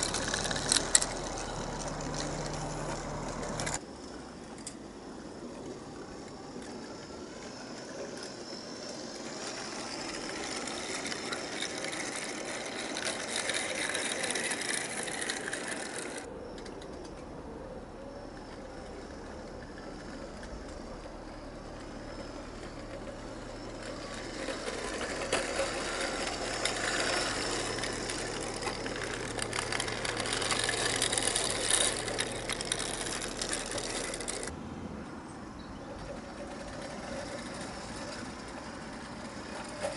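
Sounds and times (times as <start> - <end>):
model train motor whirring: 0.0 - 34.5, 36.0 - 39.9
wheels rattling on track: 0.0 - 39.9.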